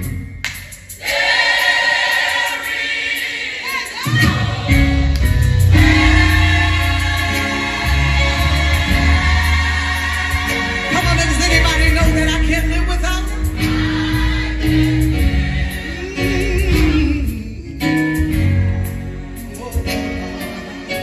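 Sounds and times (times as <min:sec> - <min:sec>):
band accompaniment with deep bass: 0:00.0 - 0:01.0, 0:03.6 - 0:21.0
gospel choir singing: 0:00.8 - 0:21.0.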